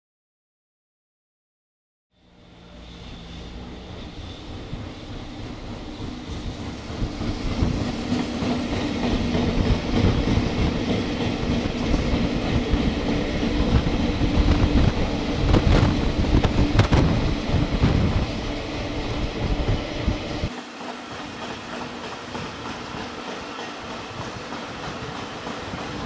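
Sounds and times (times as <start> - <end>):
electric locomotive passing: 2.2 - 26.0.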